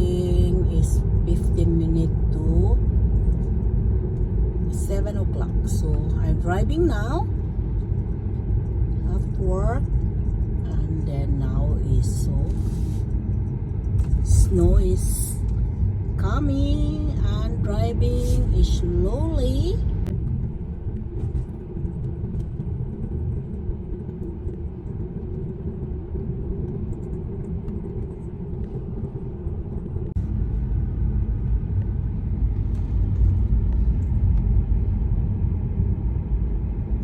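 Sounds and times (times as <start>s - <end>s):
engine and tyres rumbling: 0.0s - 37.0s
faint steady hum: 0.0s - 37.0s.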